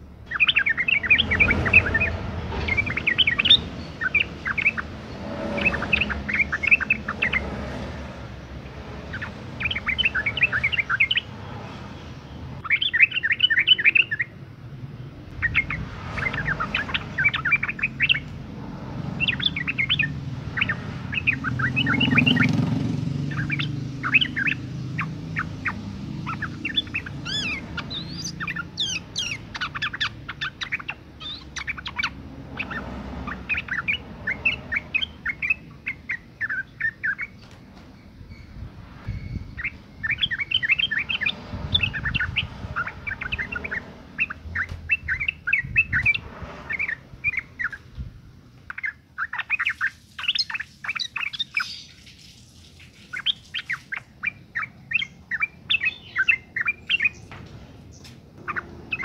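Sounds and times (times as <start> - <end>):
bird chattering calls: 0.3 - 8.4, 9.0 - 11.8, 12.6 - 14.3, 15.3 - 18.4, 19.1 - 37.5, 39.1 - 47.9, 48.7 - 52.2, 52.8 - 57.4, 58.4 - 59.0.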